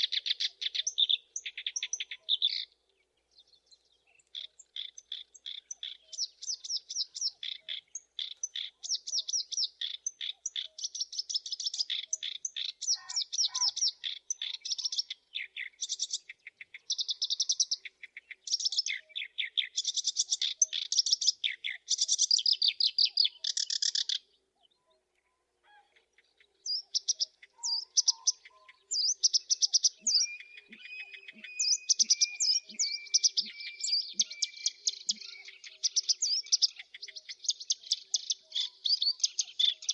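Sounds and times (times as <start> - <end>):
reed warbler singing harsh chirps: 0.0 - 24.3, 26.2 - 39.9.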